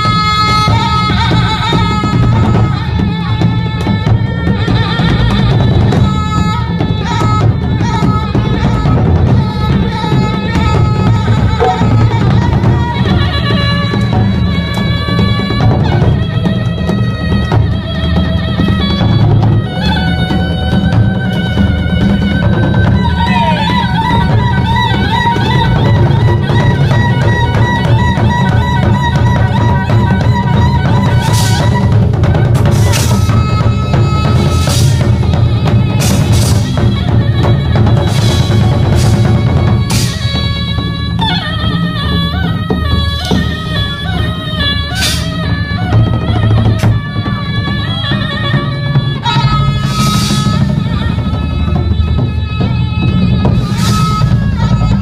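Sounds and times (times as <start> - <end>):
loud busy drumming: 0.0 - 55.0
reedy wind melody: 0.0 - 55.0.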